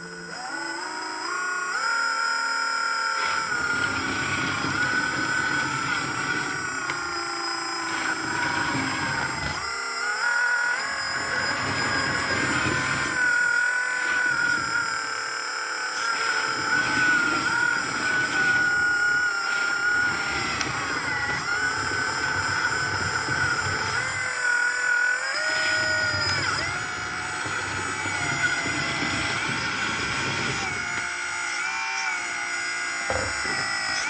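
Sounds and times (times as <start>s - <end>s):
small electric motors whining: 0.0s - 34.0s.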